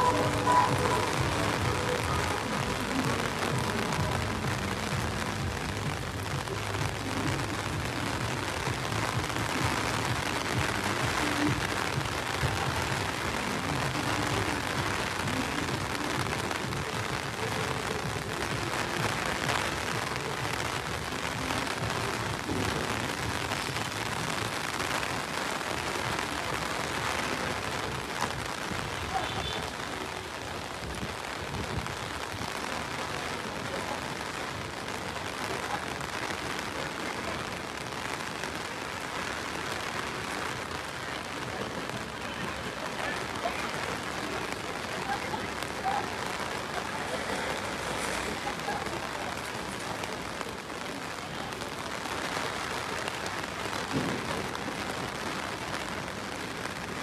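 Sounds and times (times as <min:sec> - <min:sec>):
heavy rain on stone paving: 0:00.0 - 0:57.0.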